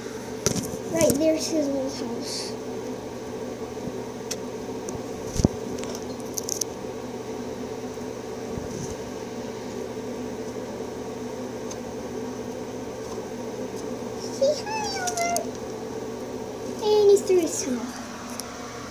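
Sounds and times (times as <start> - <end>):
mechanical hum: 0.0 - 18.9.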